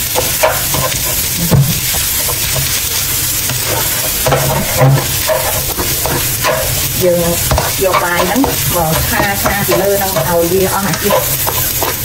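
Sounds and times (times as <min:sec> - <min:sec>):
rice sizzling in a wok: 0:00.0 - 0:12.0
spatula scraping and knocking pan: 0:00.0 - 0:12.0.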